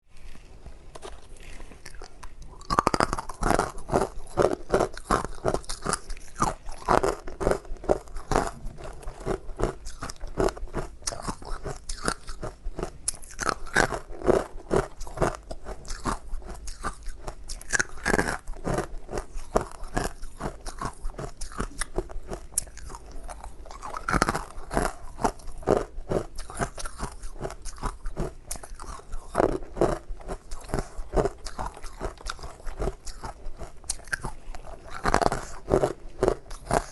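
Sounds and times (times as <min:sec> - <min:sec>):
ice being chewed: 0:00.2 - 0:36.9.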